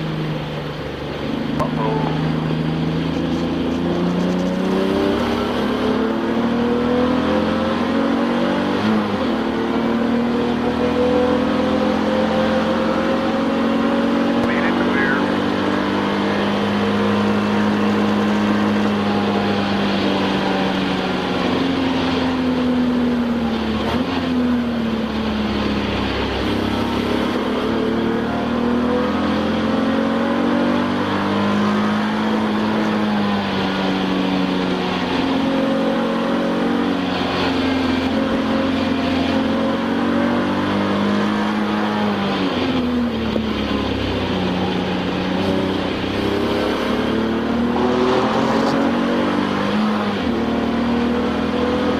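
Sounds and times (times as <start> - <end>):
race car engine: 0.0 - 51.9
road and wind noise: 0.0 - 51.9.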